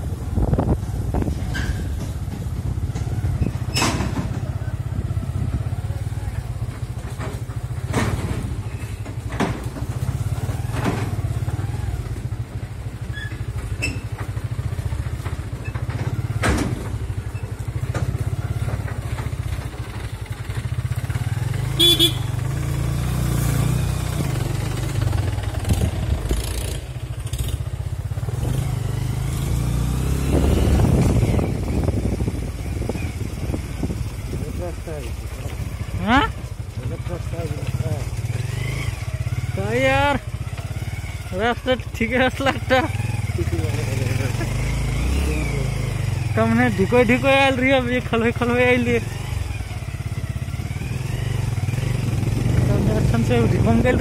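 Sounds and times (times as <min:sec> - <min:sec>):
motorcycle engine rumbling: 0:00.0 - 0:54.0
sharp knocks and rattles: 0:00.6 - 0:21.7, 0:22.4 - 0:45.3.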